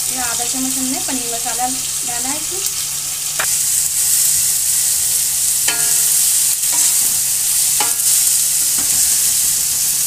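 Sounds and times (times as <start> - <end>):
masala sizzling in hot oil: 0.0 - 10.0.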